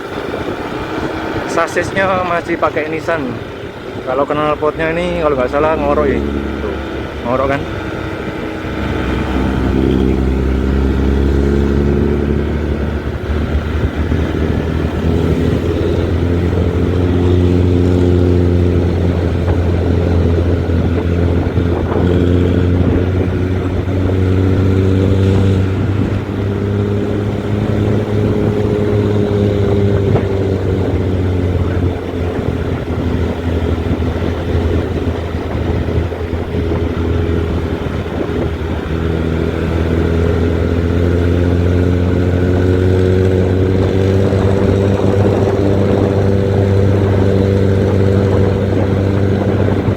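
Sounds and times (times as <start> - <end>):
bus diesel engine growling: 0.0 - 49.9.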